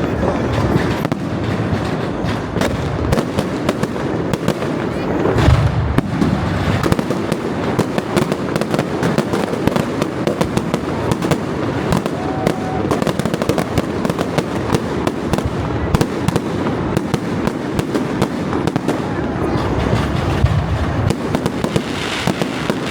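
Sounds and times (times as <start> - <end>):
fireworks crackling and banging: 0.0 - 22.9.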